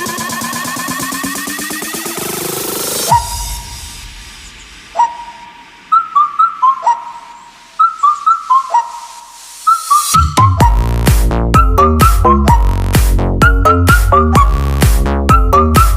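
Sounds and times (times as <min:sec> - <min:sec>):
electronic drums and bass: 0:00.0 - 0:15.9
whistle-like synth lead: 0:02.8 - 0:15.9.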